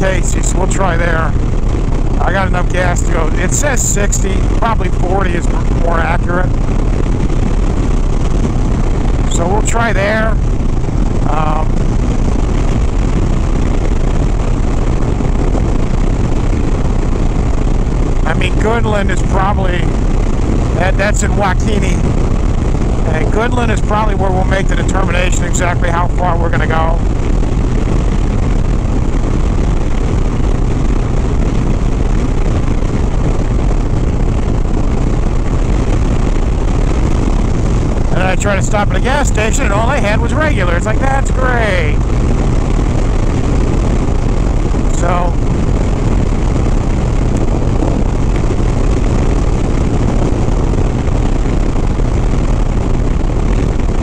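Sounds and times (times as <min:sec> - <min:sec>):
motorcycle engine droning: 0:00.0 - 0:54.0
wind rushing over microphone: 0:00.0 - 0:54.0.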